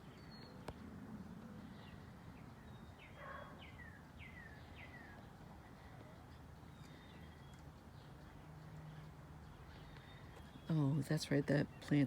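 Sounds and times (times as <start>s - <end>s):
faint songbird calls: 0.0s - 0.9s, 1.6s - 11.0s.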